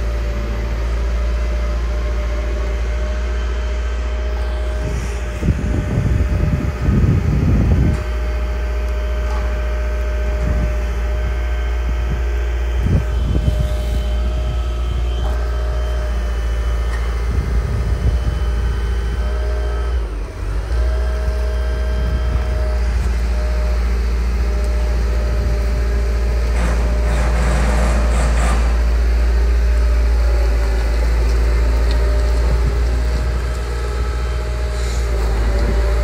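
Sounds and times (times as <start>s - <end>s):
excavator engine running: 0.0s - 36.0s
high whine: 0.0s - 36.0s.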